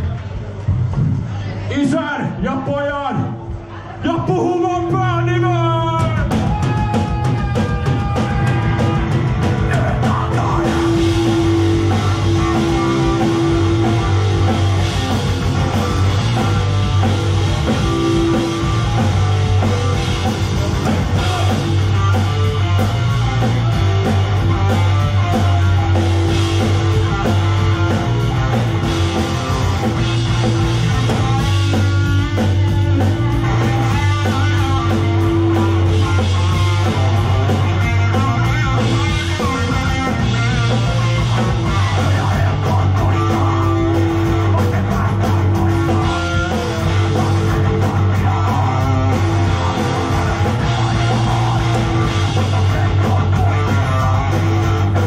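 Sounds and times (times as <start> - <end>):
bass guitar: 0.0 - 55.0
drum kit: 0.0 - 55.0
electric guitar: 6.1 - 55.0.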